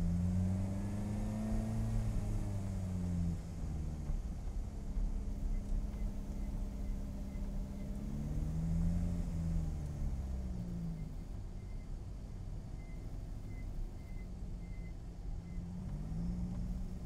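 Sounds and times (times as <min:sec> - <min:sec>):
car engine idling: 0:02.2 - 0:17.0.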